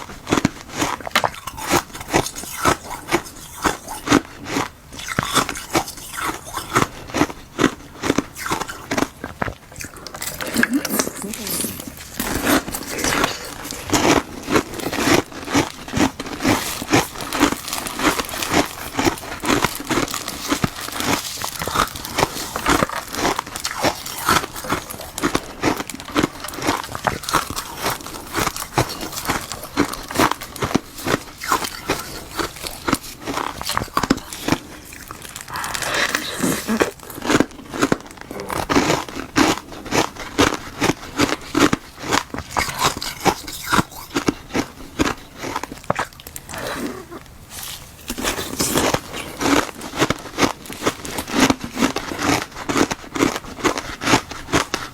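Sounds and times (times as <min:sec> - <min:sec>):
biting and crunching ice: 0:00.0 - 0:54.9.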